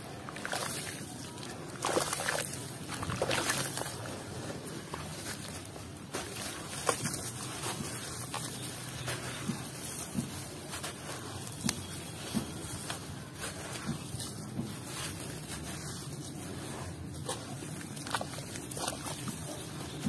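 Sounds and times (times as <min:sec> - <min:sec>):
wet squelching and sloshing: 0:00.0 - 0:20.0.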